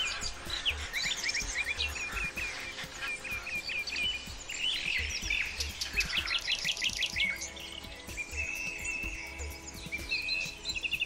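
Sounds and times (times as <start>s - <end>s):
small songbirds chirping: 0.0s - 11.0s.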